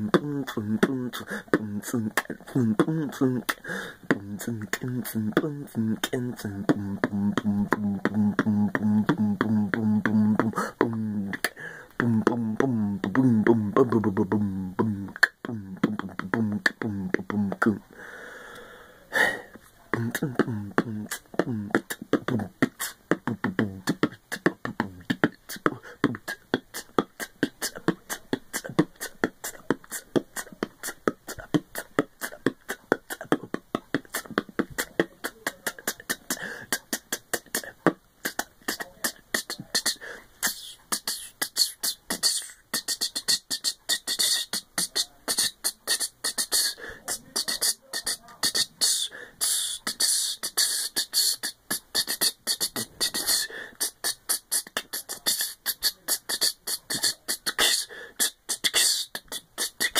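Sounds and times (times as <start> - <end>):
beatboxing: 0.0 - 59.9.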